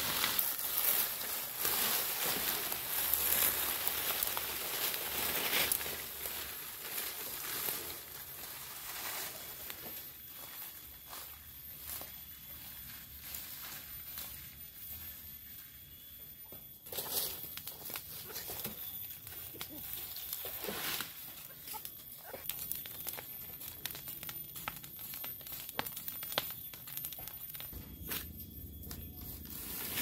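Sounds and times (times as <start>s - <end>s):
burning brush crackling: 0.0s - 30.0s.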